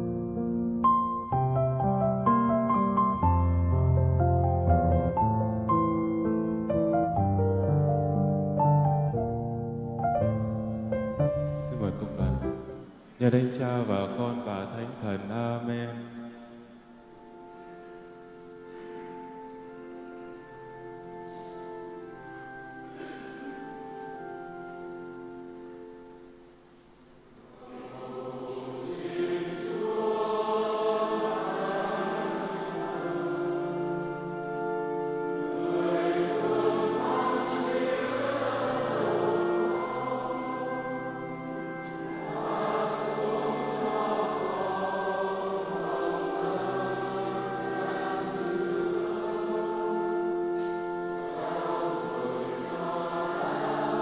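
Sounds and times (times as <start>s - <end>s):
choir singing a hymn: 0.0s - 2.1s, 2.7s - 26.3s, 27.4s - 54.0s.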